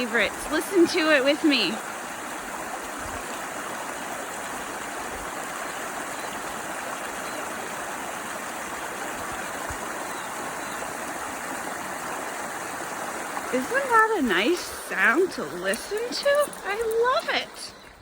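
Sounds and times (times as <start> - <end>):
small waterfall splashing: 0.0 - 18.0.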